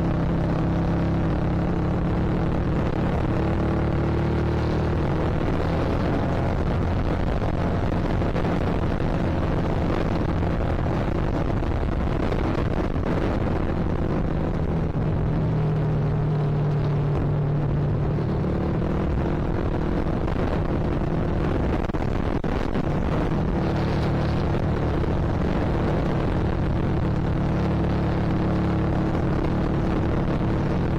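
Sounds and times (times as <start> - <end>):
motorcycle engine running: 0.0 - 30.9
wind buffeting the microphone: 0.0 - 30.9.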